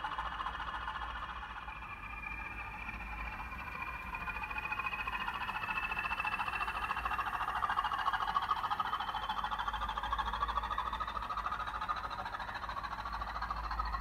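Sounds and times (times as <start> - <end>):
diesel engine throb from small speaker: 0.0 - 14.0.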